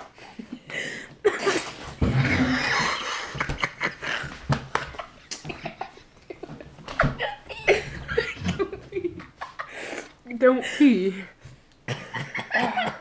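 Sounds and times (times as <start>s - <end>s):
boys laughing: 0.3s - 10.0s, 11.9s - 13.0s.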